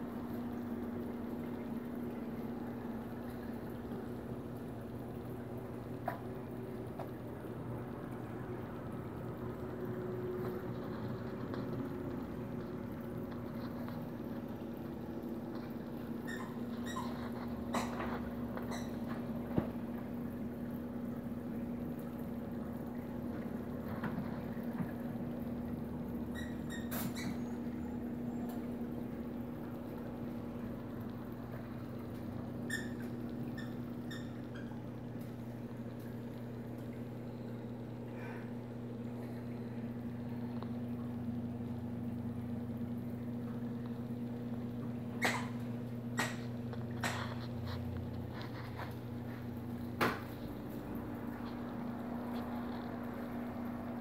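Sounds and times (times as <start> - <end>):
aquarium pumps humming: 0.0 - 54.0
water running and churning: 0.0 - 54.0.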